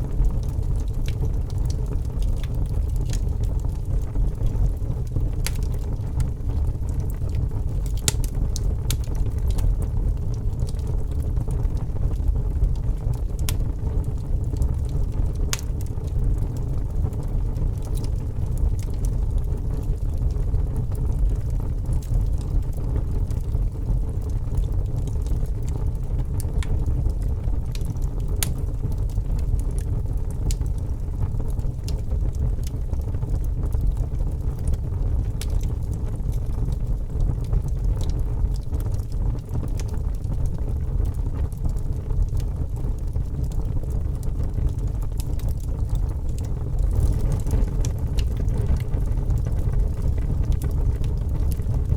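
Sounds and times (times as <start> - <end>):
fire crackles and pops: 0.0 - 51.9
low rumble of fire: 0.0 - 51.9.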